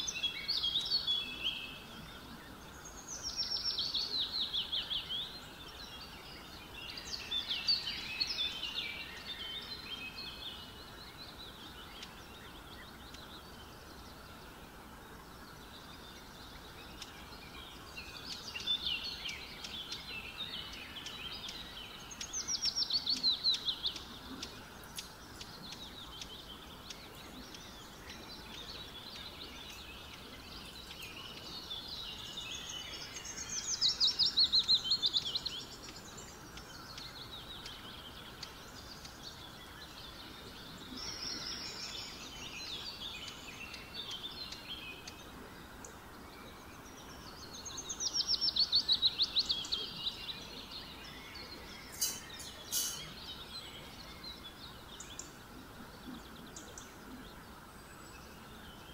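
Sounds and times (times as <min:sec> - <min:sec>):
birds singing and chirping: 0:00.0 - 0:58.9.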